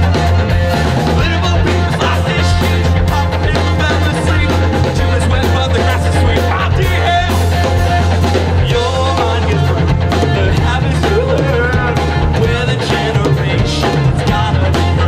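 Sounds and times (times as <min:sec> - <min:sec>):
rock music with singer and band: 0:00.0 - 0:15.0.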